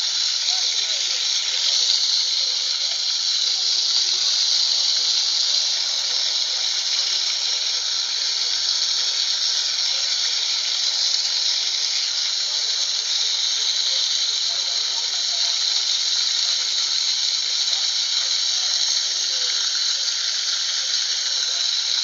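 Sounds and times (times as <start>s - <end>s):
water fountain splashing: 0.0s - 22.0s.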